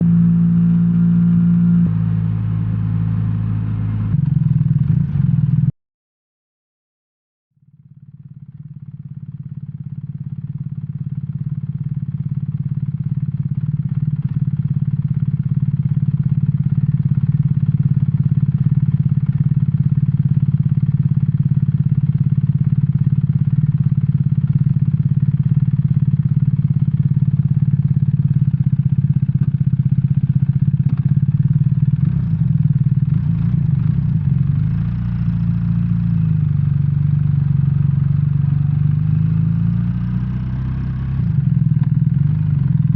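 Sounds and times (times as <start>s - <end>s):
motorcycle engine running: 0.0s - 5.7s, 7.7s - 42.9s.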